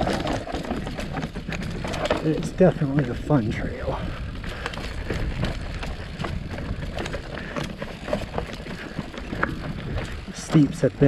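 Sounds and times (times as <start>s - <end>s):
bike clicks and rattles: 0.0s - 11.0s
tyre and wind rush: 0.0s - 11.0s.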